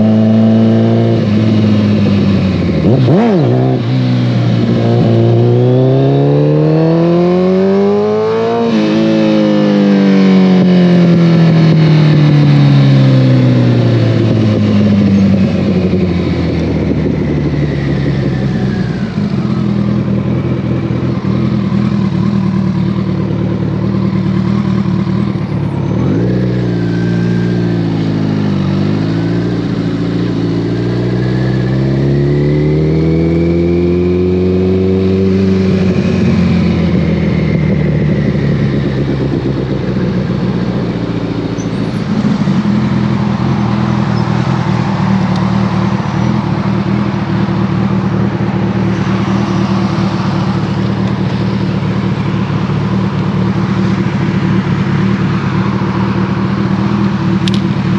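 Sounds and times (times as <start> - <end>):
motorcycle engine riding: 0.0 - 57.9.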